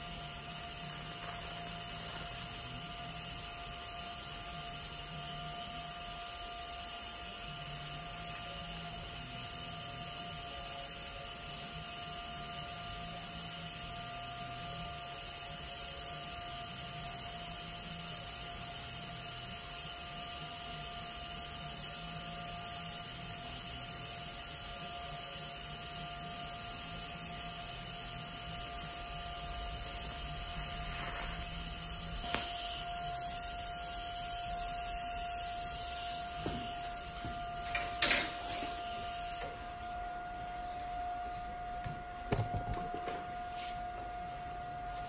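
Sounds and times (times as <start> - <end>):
welding arc hiss and buzz: 0.0 - 44.0.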